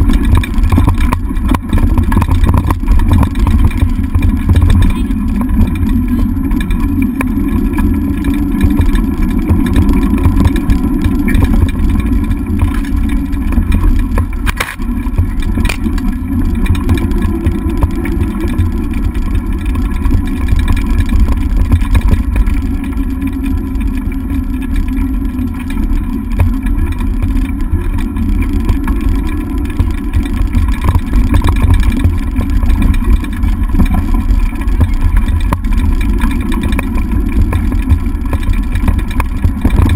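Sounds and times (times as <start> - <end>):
scooter rumbling over dirt track: 0.0 - 39.9.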